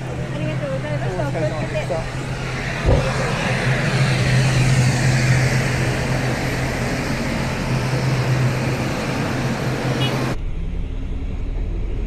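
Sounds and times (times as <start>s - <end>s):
engine whine falling in pitch: 0.0s - 12.0s
turboprop engine drone: 0.0s - 12.0s.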